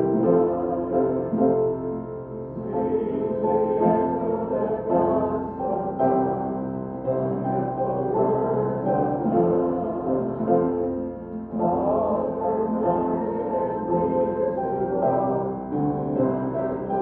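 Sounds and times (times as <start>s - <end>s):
keyboard playing hymn chords: 0.0s - 17.0s.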